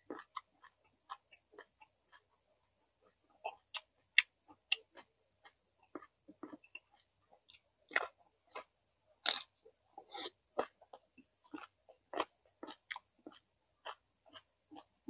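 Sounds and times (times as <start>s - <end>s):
person chewing crunchy food: 0.0s - 2.3s, 3.0s - 15.0s.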